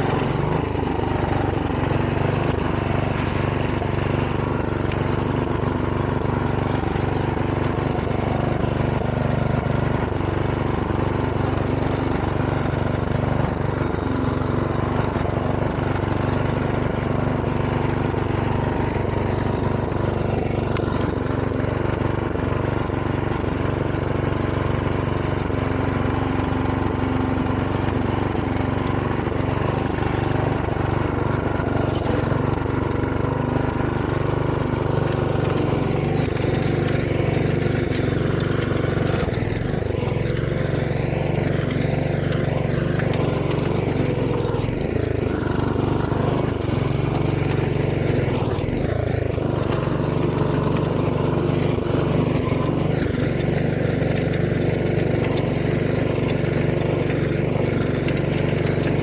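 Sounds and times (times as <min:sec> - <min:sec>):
rotary tiller churning soil: 0:00.0 - 0:59.0
walk-behind tractor engine running: 0:00.0 - 0:59.0.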